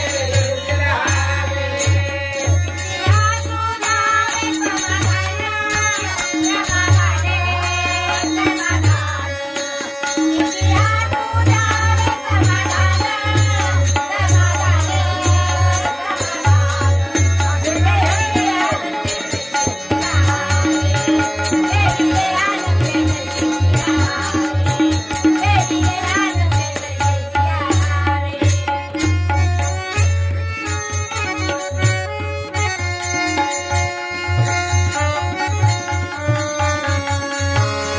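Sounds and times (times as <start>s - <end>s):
devotional song singing: 0.0s - 37.9s
hand cymbals striking: 0.0s - 37.9s.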